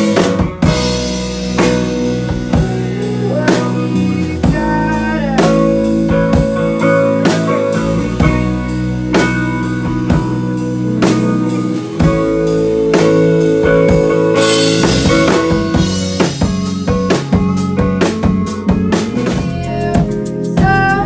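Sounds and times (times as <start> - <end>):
distorted electric guitars: 0.0 - 21.0
drum beat: 0.0 - 21.0.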